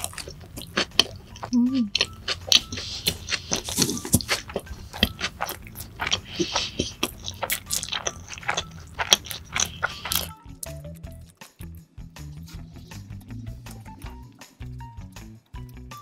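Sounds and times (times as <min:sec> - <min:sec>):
wet chewing and mouth clicks: 0:00.0 - 0:15.8.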